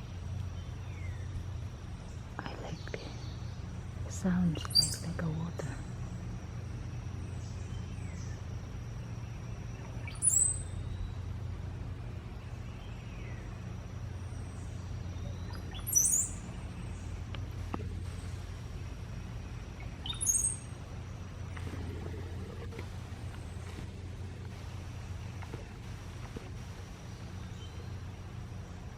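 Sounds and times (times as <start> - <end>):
bird gurgling song: 0.0 - 28.9
steady low hum: 0.0 - 28.9.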